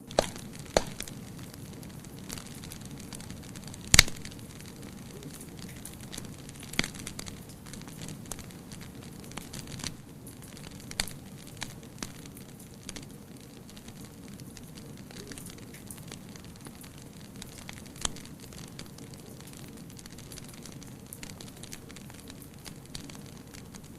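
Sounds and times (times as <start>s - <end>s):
wood fire crackling and popping: 0.0s - 23.9s.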